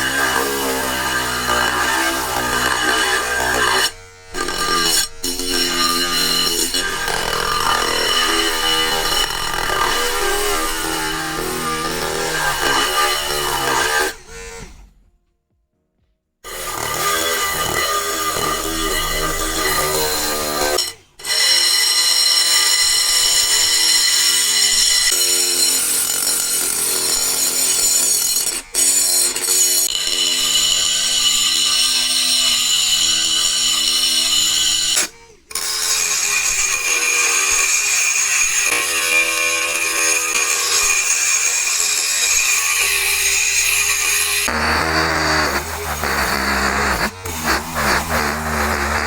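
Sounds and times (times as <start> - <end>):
drill whining at high speed: 0.0 - 15.0, 16.5 - 49.0.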